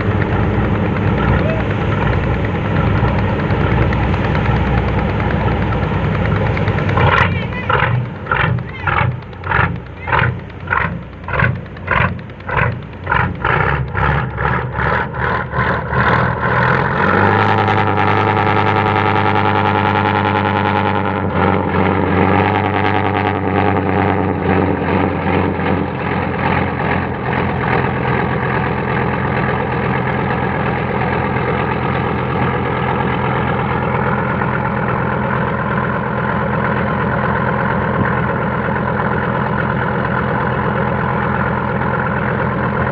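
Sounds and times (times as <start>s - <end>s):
heavy engine beating: 0.0s - 42.9s.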